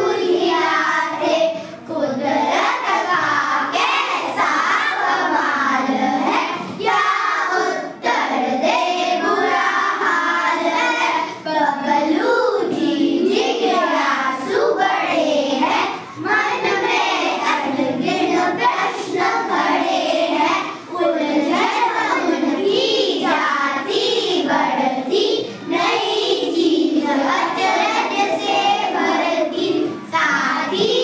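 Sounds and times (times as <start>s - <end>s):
children chanting in unison: 0.0s - 31.0s.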